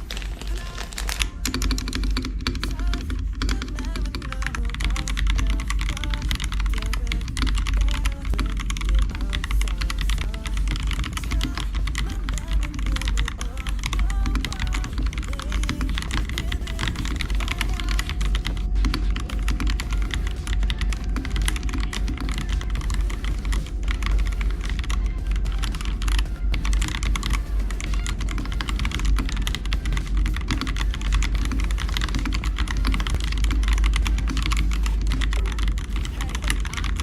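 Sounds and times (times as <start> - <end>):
mechanical keyboard typing: 0.0 - 37.0.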